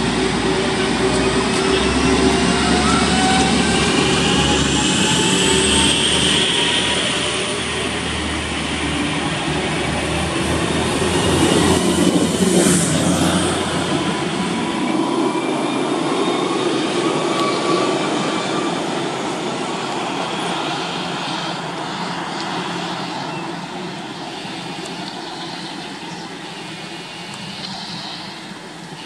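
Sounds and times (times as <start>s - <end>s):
electric train running noise: 0.0s - 29.0s.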